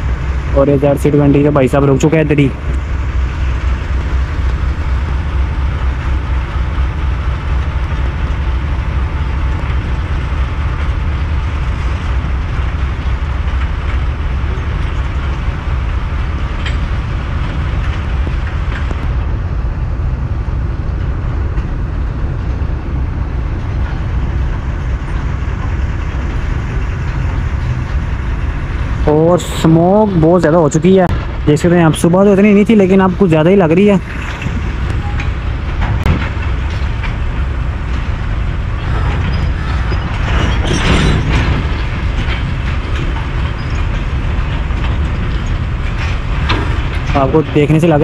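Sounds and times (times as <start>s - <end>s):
diesel locomotive engine rumble: 0.0s - 48.0s.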